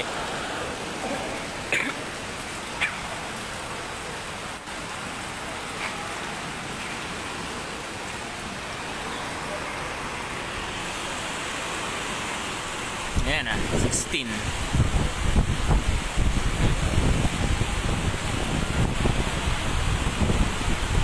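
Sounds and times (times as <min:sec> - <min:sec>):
heavy rain and wind: 0:00.0 - 0:21.0.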